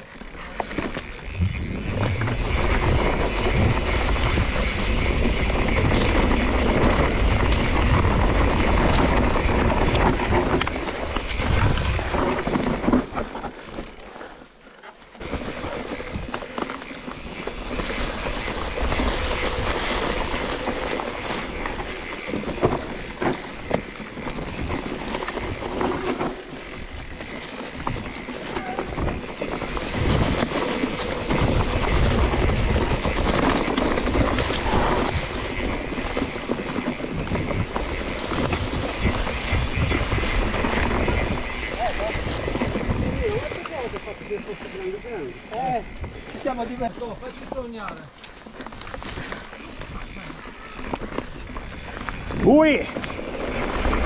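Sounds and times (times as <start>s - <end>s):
mountain bike rattling over rough trail: 0.0s - 54.0s.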